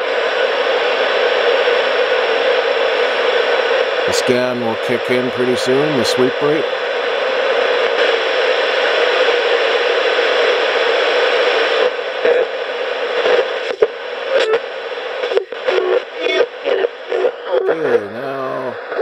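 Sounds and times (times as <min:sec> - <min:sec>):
radio static hissing: 0:00.0 - 0:19.0
snippets of broadcast sound: 0:00.1 - 0:19.0.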